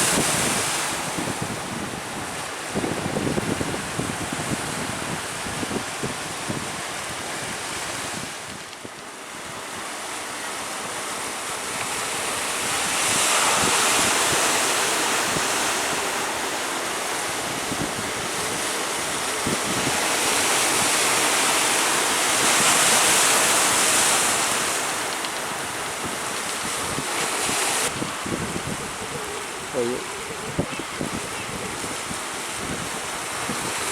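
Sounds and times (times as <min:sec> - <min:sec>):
wind on microphone: 0:00.0 - 0:09.9, 0:10.5 - 0:33.9
sea surf breaking: 0:00.0 - 0:33.9.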